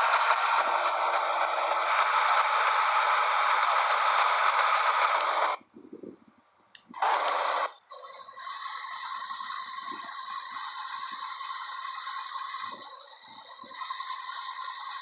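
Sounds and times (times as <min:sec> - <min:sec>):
radio static hiss: 0:00.0 - 0:05.7, 0:06.9 - 0:15.0.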